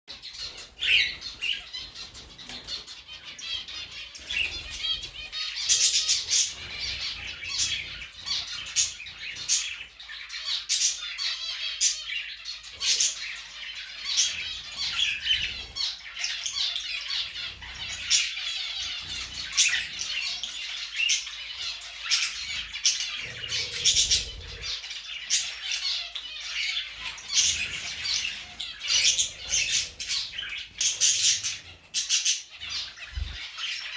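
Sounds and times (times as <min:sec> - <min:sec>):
birds chirping and squawking: 0:00.1 - 0:33.9.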